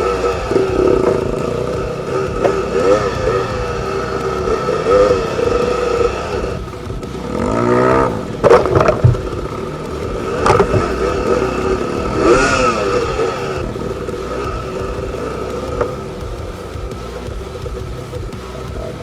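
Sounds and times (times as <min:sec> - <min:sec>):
dirt bike engine revving: 0:00.0 - 0:19.0
sharp clattering knocks: 0:00.0 - 0:19.0.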